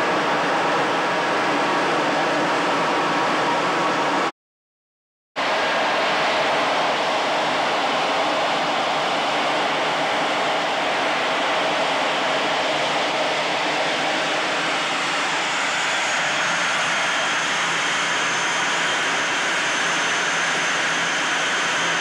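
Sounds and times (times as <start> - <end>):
jet engine and airflow rush: 0.0 - 4.3, 5.4 - 22.0.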